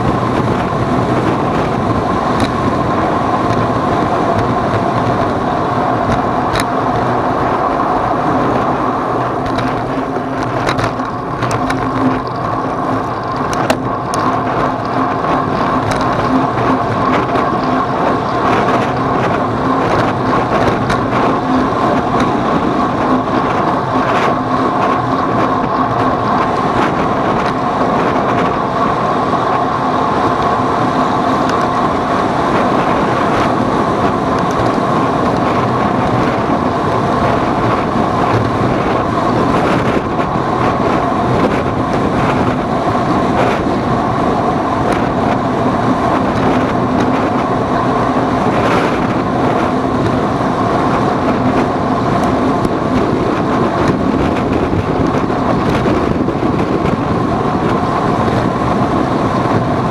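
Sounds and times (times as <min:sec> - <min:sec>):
vehicle running hum: 0:00.0 - 0:59.9
wind on microphone: 0:00.0 - 0:59.9.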